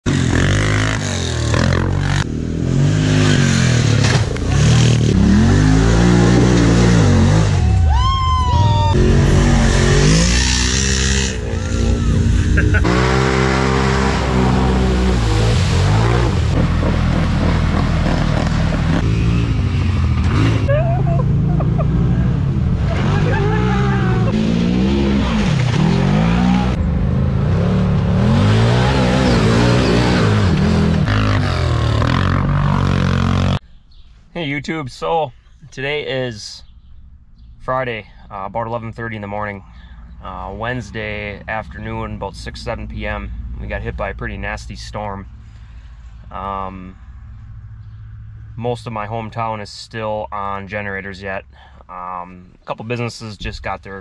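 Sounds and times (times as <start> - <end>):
atv engines revving: 0.0 - 33.6, 35.9 - 49.5.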